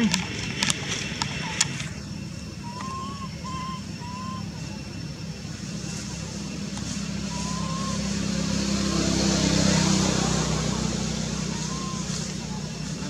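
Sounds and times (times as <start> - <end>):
faint wavering calls: 0.0 - 13.0
vehicle engine humming: 0.0 - 13.0.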